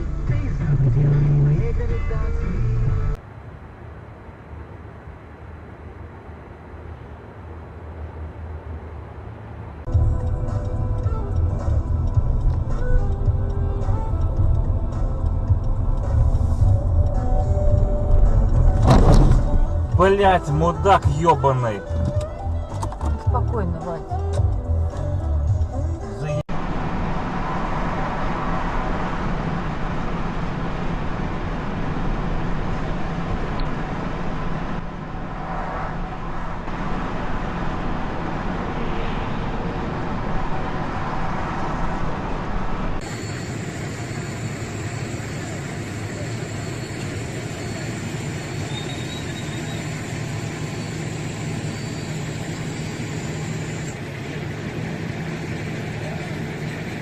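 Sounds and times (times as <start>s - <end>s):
low hum: 0.0s - 20.9s, 21.8s - 57.0s
car road and engine noise: 0.0s - 57.0s.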